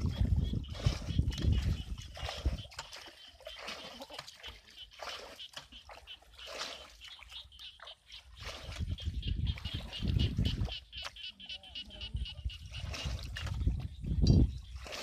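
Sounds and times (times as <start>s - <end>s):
hands splashing in muddy water: 0.0s - 11.2s, 12.6s - 15.0s.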